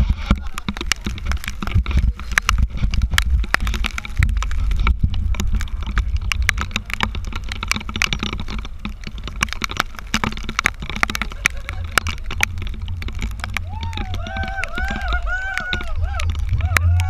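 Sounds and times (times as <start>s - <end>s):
rain hitting camera housing: 0.0s - 17.0s
wind rumble on microphone: 0.0s - 17.0s.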